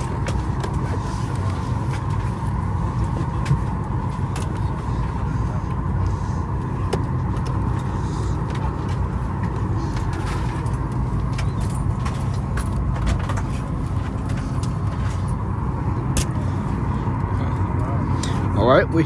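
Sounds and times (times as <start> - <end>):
airliner cabin rumble and air hiss: 0.0 - 19.0.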